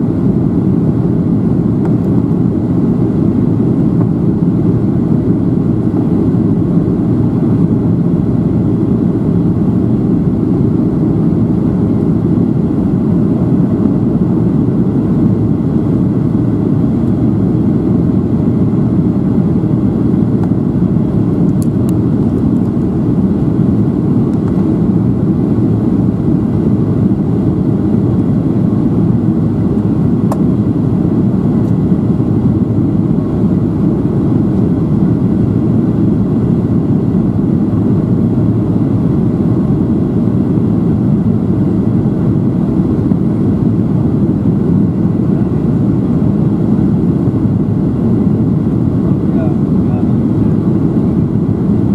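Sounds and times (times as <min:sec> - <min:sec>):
air rushing along fuselage: 0:00.0 - 0:51.9
airplane cabin engine drone: 0:00.0 - 0:51.9.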